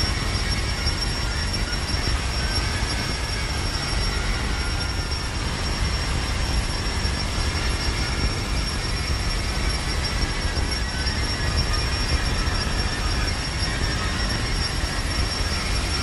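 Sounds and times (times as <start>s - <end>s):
harsh electronic feedback noise: 0.0s - 16.0s.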